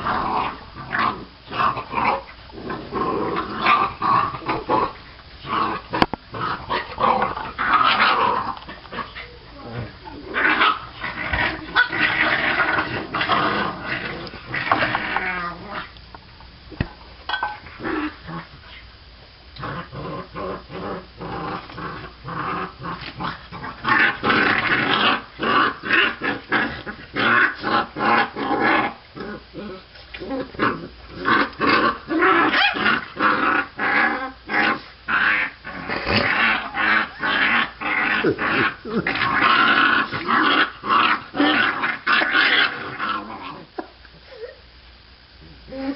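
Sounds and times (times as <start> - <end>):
puppies growling: 0.0 - 16.0, 17.3 - 18.9, 19.6 - 44.6, 45.4 - 45.9.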